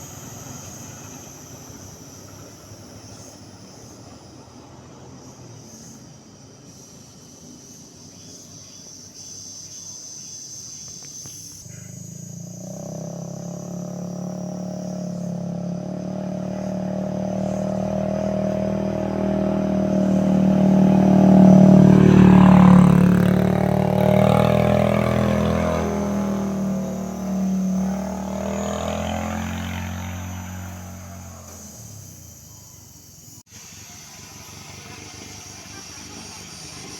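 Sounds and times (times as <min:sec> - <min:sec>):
vehicle engine running: 0:00.0 - 0:09.8, 0:10.4 - 0:36.9.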